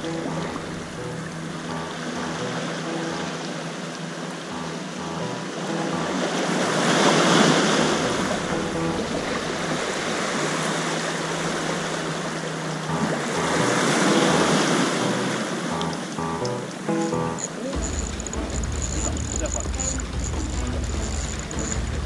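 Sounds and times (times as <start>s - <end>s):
faint background music: 0.0s - 22.0s
water sloshing and splashing: 0.0s - 22.0s.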